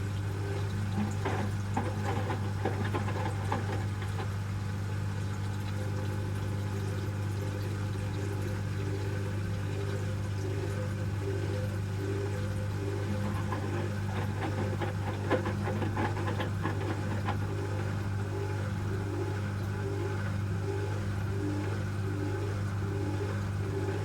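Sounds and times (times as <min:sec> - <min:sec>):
washing machine motor hum: 0:00.0 - 0:24.0
water sloshing in drum: 0:00.4 - 0:11.4, 0:12.0 - 0:24.0.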